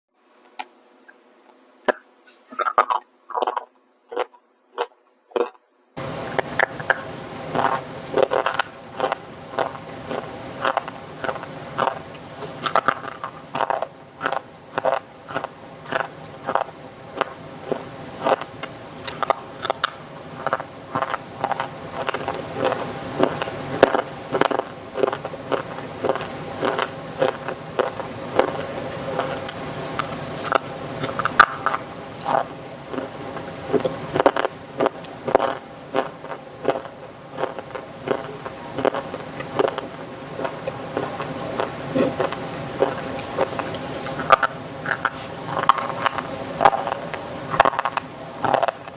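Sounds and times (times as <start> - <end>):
faint steady hum: 0.1 - 48.9.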